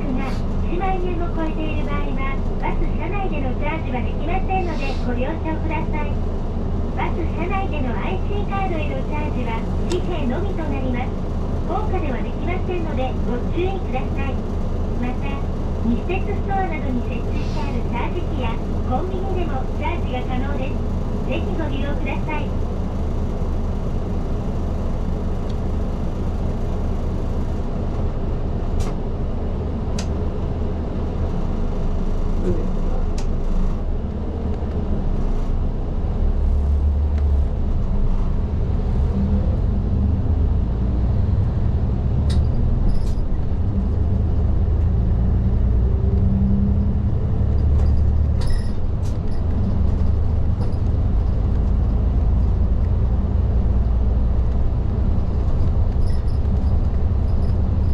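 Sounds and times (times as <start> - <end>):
bus engine and road drone: 0.0 - 57.9.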